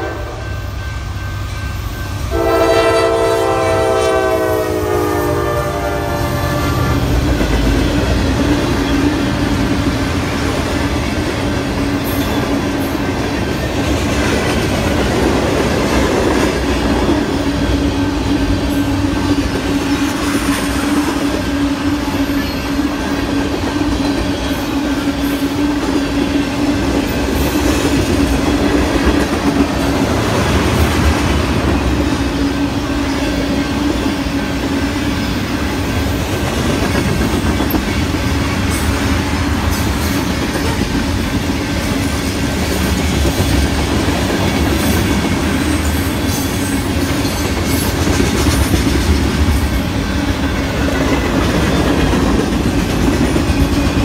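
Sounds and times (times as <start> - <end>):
train wheels rattling on rail: 0.0 - 54.0.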